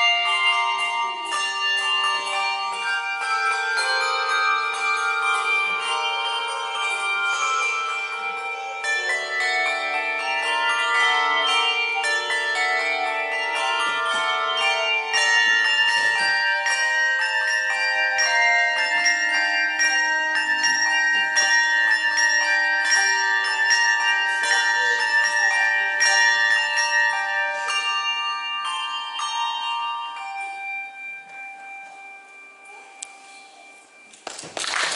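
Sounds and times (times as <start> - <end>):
handbell choir playing: 0.0 - 34.9.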